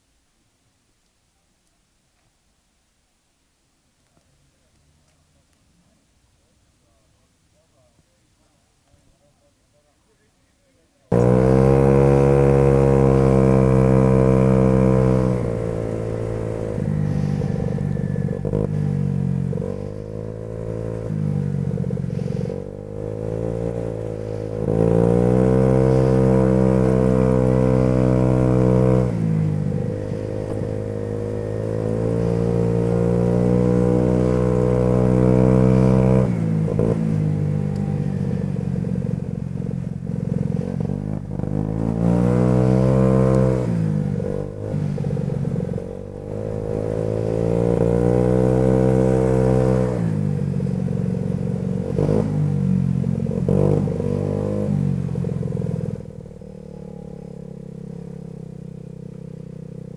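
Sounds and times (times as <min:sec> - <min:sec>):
scooter engine accelerating and idling: 0:11.1 - 0:59.9.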